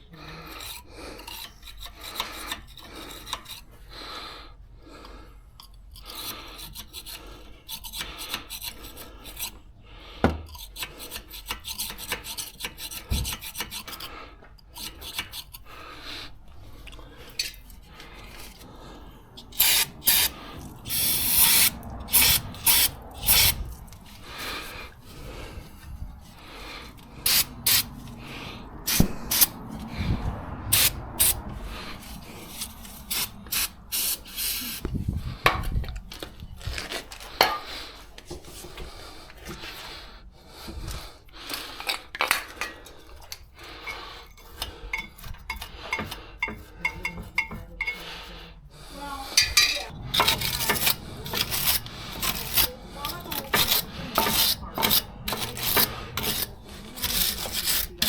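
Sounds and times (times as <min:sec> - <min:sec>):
tools scraping: 0:00.3 - 0:03.8, 0:05.6 - 0:39.9, 0:40.7 - 0:48.3, 0:49.0 - 0:58.0.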